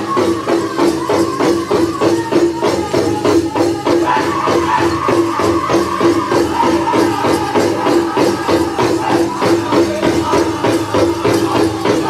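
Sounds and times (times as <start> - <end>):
bells jingling: 0.0 - 12.0
group singing: 0.0 - 12.0
large drum beating fast: 0.0 - 12.0.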